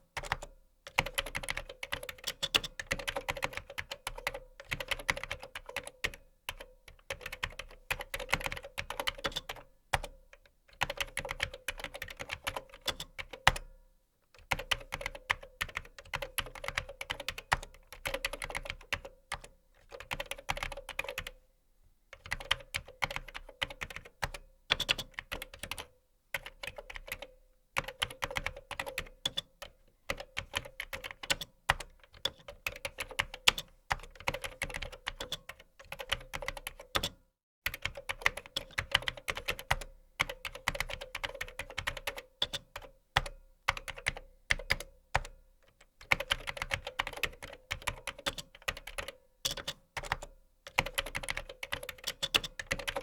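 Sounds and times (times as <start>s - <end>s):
typing on computer keyboard: 0.2s - 13.7s, 14.4s - 21.4s, 22.2s - 53.0s.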